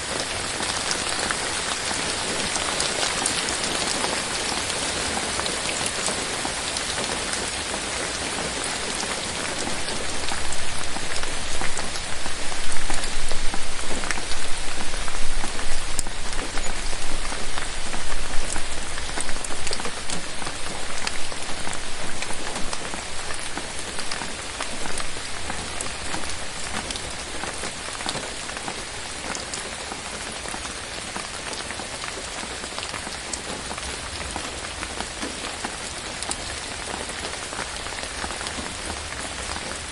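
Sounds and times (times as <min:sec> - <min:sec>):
rain on forest foliage: 0:00.0 - 0:39.9.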